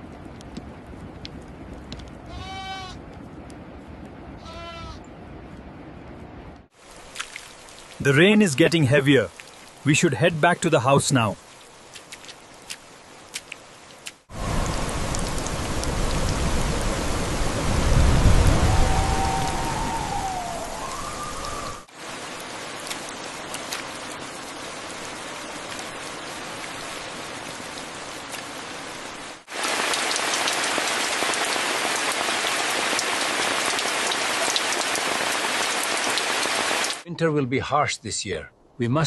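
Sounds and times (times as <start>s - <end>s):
steady rain falling: 0.0s - 4.2s, 6.6s - 37.1s.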